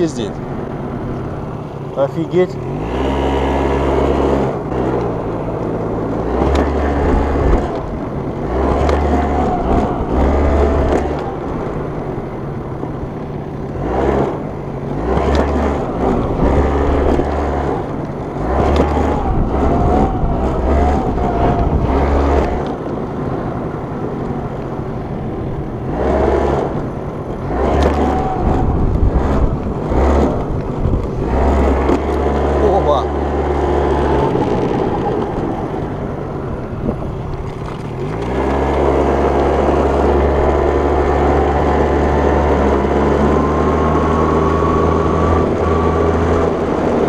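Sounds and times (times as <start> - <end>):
scooter engine revving: 0.0 - 47.0.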